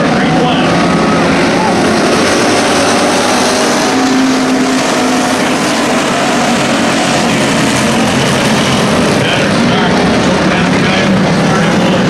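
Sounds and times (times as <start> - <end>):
held engine tone: 0.0 - 12.0
stock car engines droning: 0.0 - 12.0.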